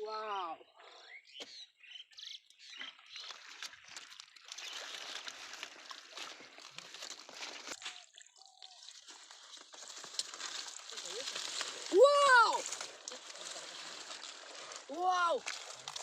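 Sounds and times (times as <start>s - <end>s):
hands splashing in muddy water: 2.9s - 16.0s.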